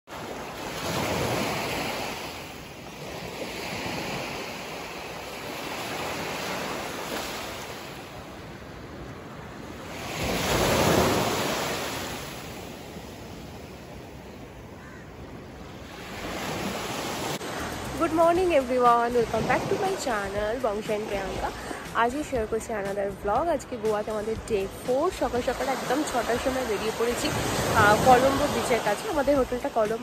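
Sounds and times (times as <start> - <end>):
waves washing on sandy beach: 0.1 - 22.2, 24.4 - 30.0.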